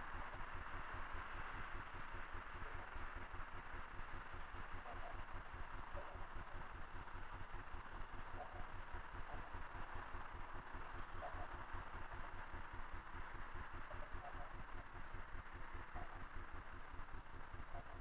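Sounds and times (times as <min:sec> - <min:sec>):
distant road traffic: 0:00.0 - 0:18.0.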